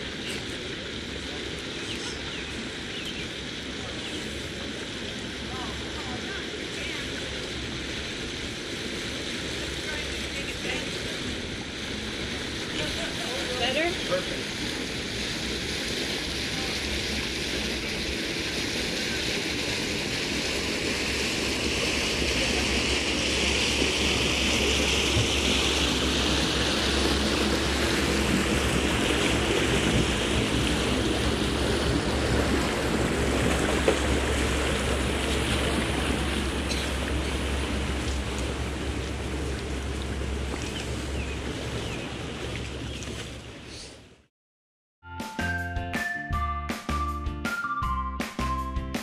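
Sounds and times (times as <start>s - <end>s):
boat engine idling: 0.0s - 44.0s
water rushing along hull: 0.0s - 44.3s.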